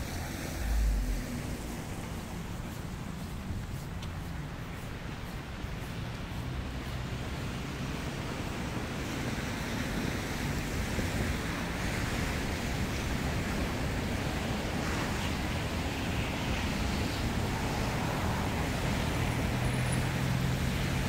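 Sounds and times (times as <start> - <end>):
city traffic rushing: 0.0 - 21.0.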